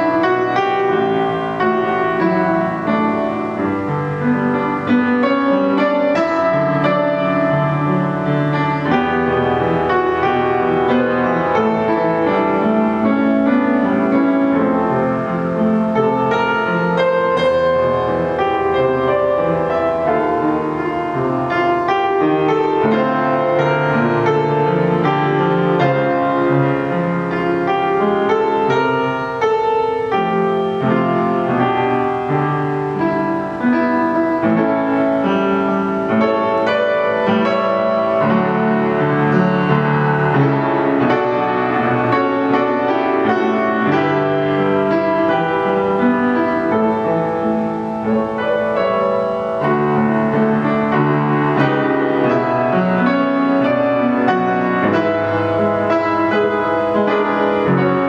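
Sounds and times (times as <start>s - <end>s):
solo piano music: 0.0s - 58.0s.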